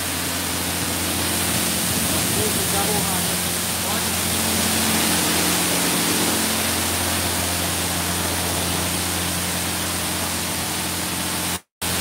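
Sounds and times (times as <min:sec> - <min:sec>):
car wash water spray hissing: 0:00.0 - 0:12.0
low hum: 0:00.0 - 0:12.0.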